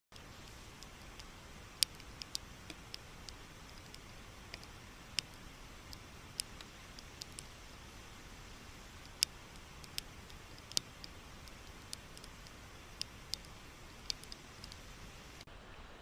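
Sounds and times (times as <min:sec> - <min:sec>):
raindrops ticking on camera: 0:00.1 - 0:15.5.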